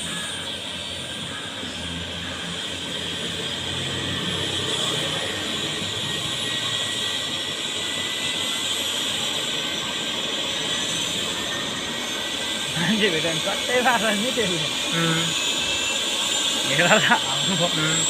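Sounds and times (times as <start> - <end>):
helicopter turbine whine: 0.0 - 18.0.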